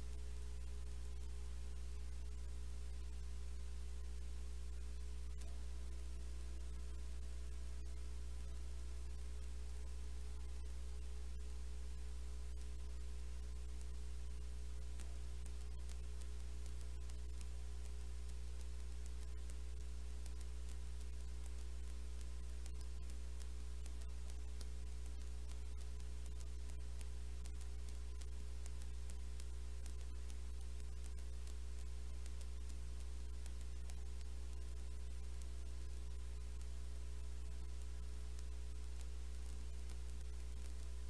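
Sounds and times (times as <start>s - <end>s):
electrical hum: 0.0s - 41.0s
faint crackling static: 0.0s - 41.0s.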